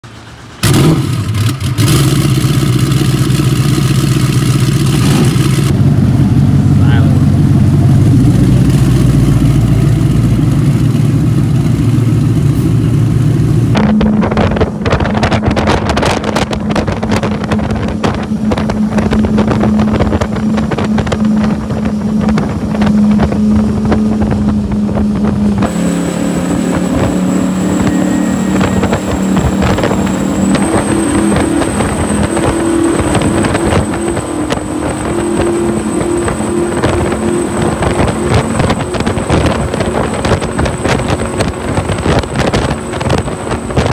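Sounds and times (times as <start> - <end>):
powerboat engines: 0.0 - 43.9
rushing wind and water: 0.0 - 43.9
thin high whine: 3.0 - 43.9.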